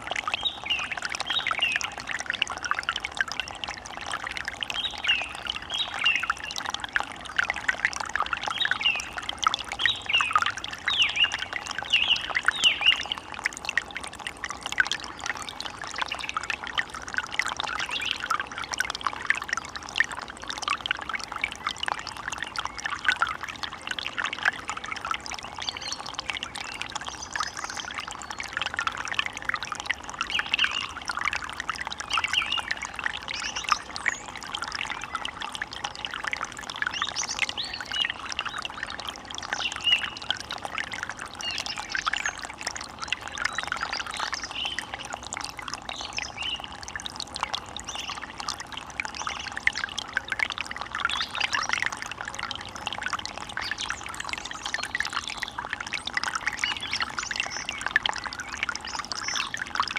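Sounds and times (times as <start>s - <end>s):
forest stream babbling: 0.0s - 59.9s.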